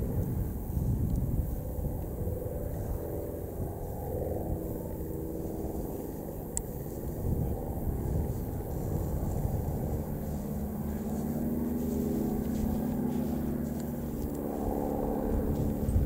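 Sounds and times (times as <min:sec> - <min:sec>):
continuous low rumble: 0:00.0 - 0:16.0
propeller plane engines droning: 0:00.0 - 0:16.0.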